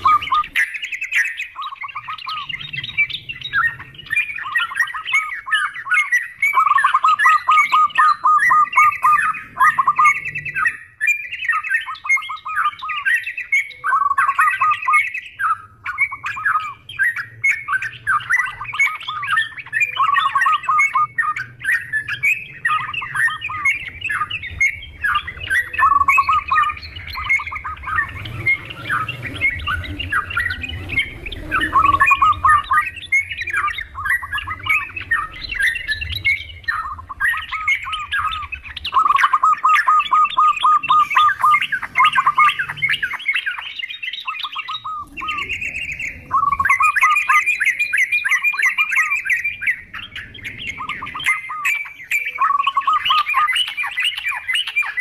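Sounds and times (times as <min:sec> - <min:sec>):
bulbuls chattering and calling: 0:00.0 - 0:55.0
doves cooing: 0:00.0 - 0:55.0.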